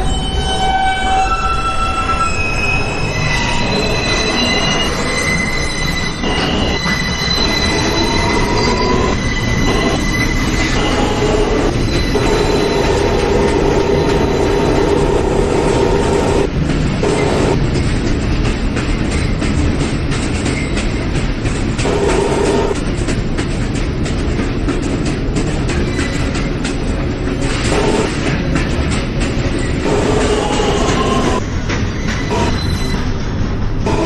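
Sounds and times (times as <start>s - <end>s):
low rumble of train car: 0.0s - 34.0s
train wheels squealing on rails: 0.0s - 34.0s.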